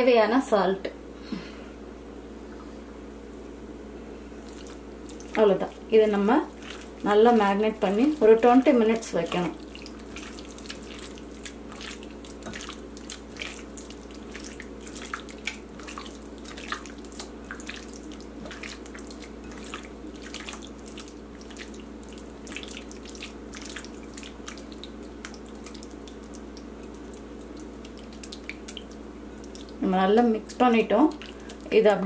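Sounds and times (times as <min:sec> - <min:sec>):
steady low hum: 0:00.0 - 0:32.0
hand squelching wet marinade: 0:04.2 - 0:32.0.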